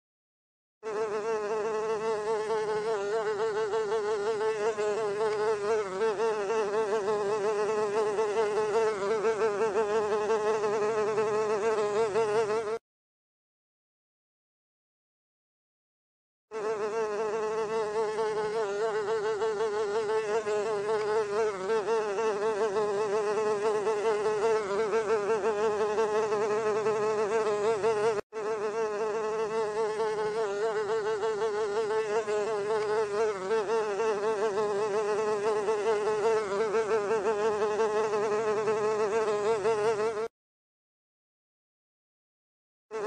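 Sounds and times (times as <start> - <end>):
housefly buzzing: 0.8 - 12.8, 16.5 - 40.4.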